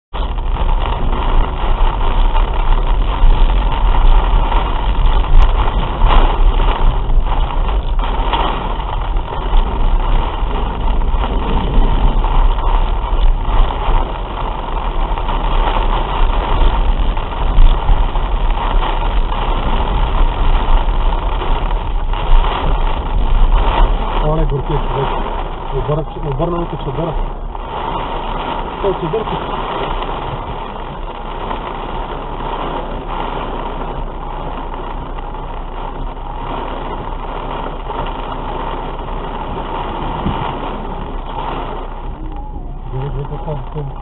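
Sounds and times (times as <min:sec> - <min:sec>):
heavy rain drumming on car roof: 0:00.0 - 0:44.0
car driving rumble: 0:00.1 - 0:44.0.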